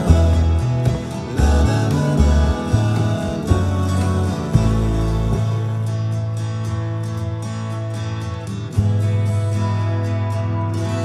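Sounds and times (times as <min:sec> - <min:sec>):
soft plucked notes: 0:00.0 - 0:11.0.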